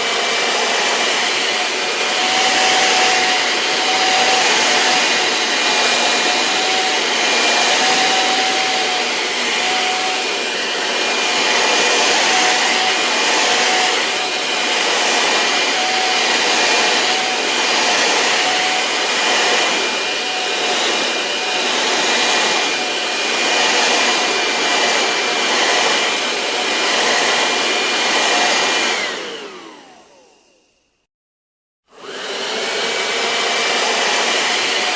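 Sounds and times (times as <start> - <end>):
vacuum motor spinning down: 0.0 - 30.9, 31.9 - 34.9
vacuum cleaner running: 0.0 - 31.1, 31.8 - 34.9.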